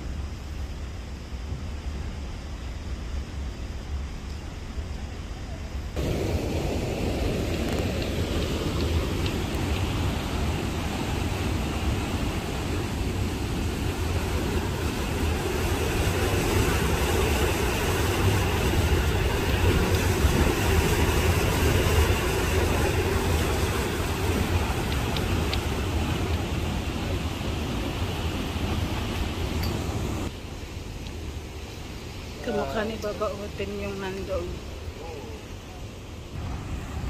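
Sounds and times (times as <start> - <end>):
river water rushing: 6.0 - 37.0.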